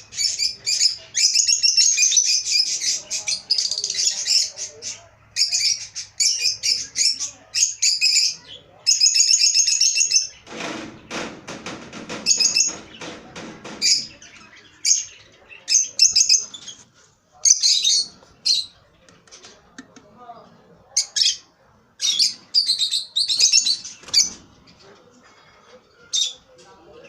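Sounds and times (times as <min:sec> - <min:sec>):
lovebirds chirping: 0:00.0 - 0:27.0.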